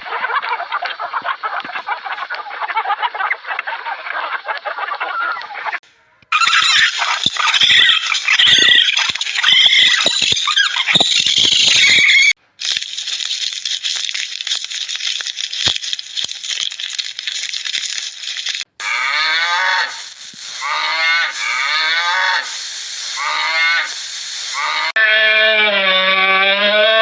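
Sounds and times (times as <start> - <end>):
hissing crackling noise: 0.0 - 25.0
animal calling: 0.0 - 27.0.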